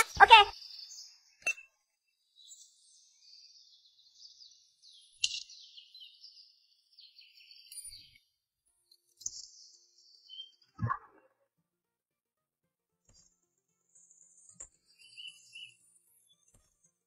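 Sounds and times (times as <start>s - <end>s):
faint high-pitched chirping: 0.0s - 11.3s, 13.8s - 17.0s.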